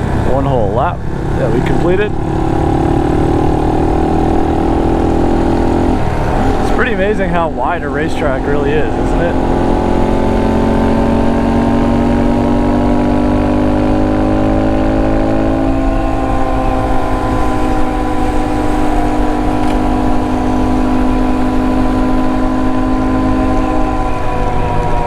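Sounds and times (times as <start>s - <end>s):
low rush of wind: 0.0s - 25.0s
motorcycle engine accelerating: 0.0s - 25.0s.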